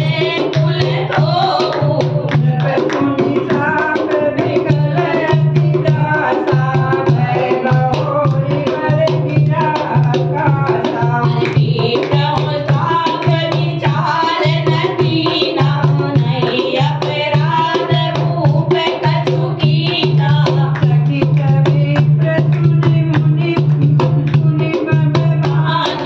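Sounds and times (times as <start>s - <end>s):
woman singing a chant: 0.0s - 26.0s.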